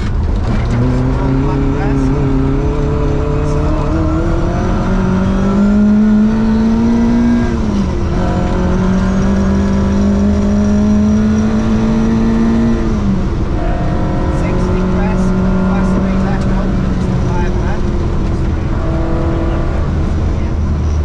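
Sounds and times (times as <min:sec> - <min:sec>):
car engine revving at full throttle: 0:00.0 - 0:21.0.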